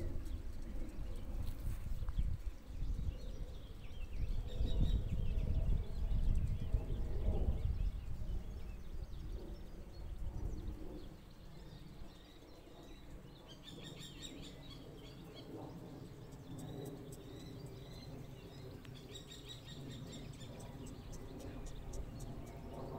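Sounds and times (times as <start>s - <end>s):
small birds chirping: 0.0s - 22.9s
wind buffeting microphone: 0.0s - 22.9s.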